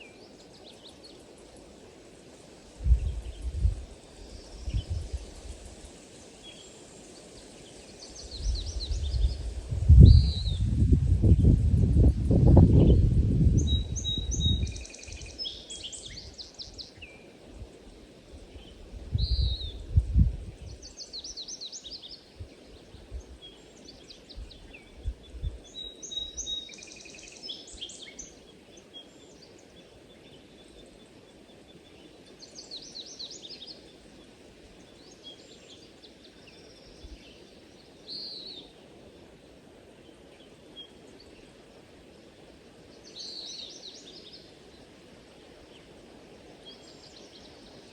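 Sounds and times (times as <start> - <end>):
songbirds chirping and trilling: 0.0 - 47.9
steady background hiss: 0.0 - 47.9.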